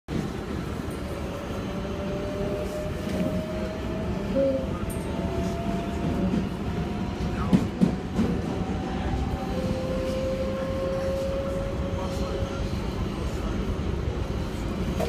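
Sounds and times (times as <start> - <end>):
subway train rail rumble: 0.1 - 15.0.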